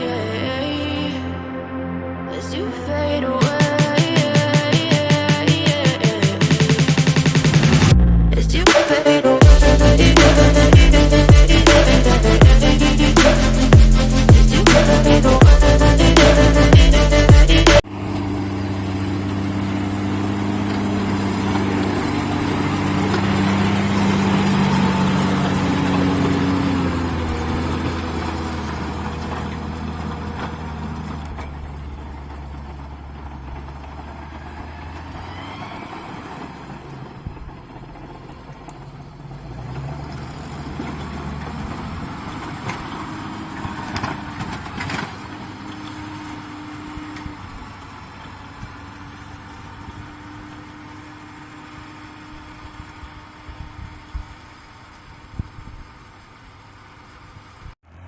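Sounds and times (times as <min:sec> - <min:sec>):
tractor engine running: 0:03.4 - 0:58.0.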